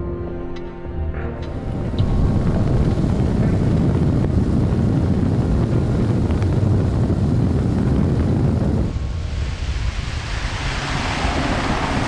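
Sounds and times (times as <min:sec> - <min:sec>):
hull rushing over water: 0:01.5 - 0:12.0
wind buffeting microphone: 0:01.5 - 0:12.0.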